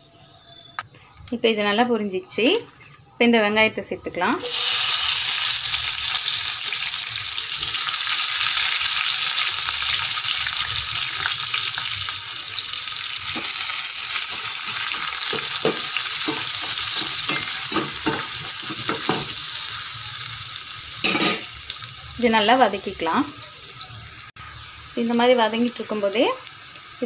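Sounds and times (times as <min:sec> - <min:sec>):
onions sizzling in oil: 0:04.2 - 0:27.0.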